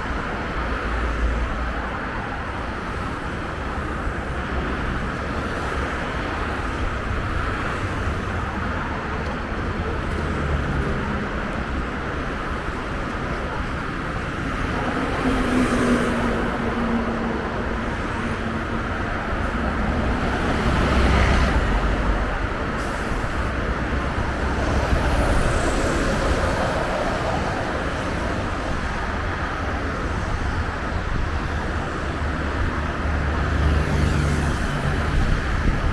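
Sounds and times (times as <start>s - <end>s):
bus diesel engine rumbling: 0.0s - 35.9s
road and traffic noise: 0.0s - 35.9s.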